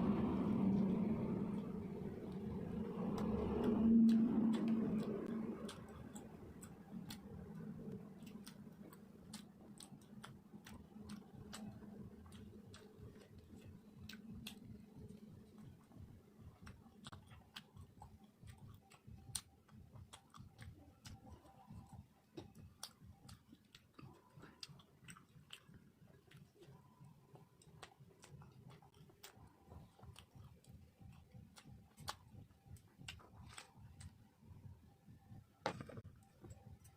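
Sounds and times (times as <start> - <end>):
person chewing food: 0.0 - 34.8.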